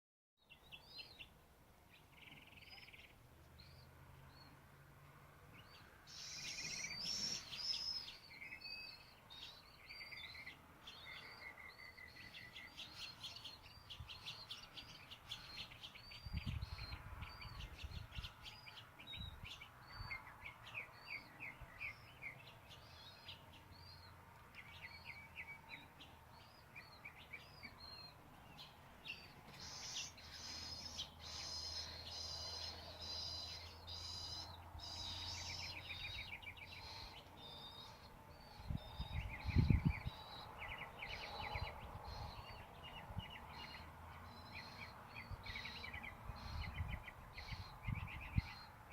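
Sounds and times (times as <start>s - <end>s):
small birds chirping: 0.4s - 48.9s.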